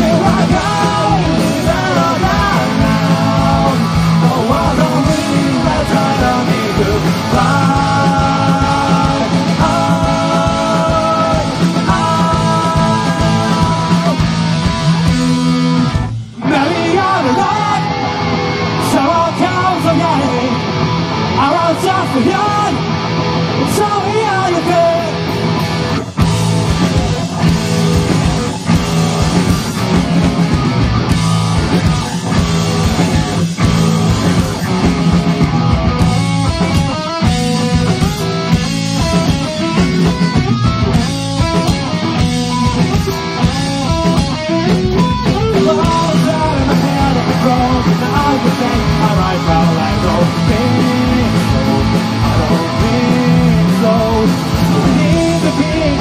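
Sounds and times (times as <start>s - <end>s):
live rock band playing: 0.0s - 56.0s
wavering electric guitar lead: 0.0s - 56.0s.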